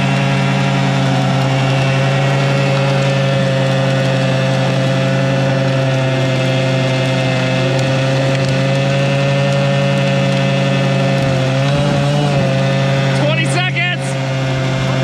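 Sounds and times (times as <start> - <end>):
quad engine at rev limiter: 0.0 - 15.0.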